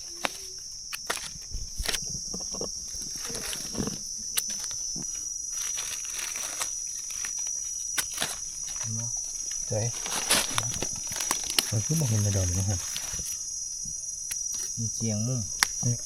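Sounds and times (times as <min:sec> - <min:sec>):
crackles and rustles: 0:00.0 - 0:13.6
insects droning: 0:00.0 - 0:16.0.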